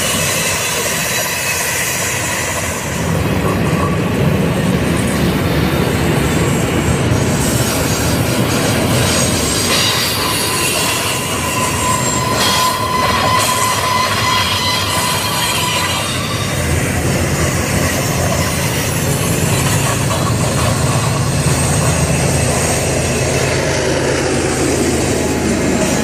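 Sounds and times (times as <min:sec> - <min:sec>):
high wheel squeal: 0:00.0 - 0:04.4, 0:06.2 - 0:26.0
freight train wheels rumbling: 0:00.0 - 0:26.0.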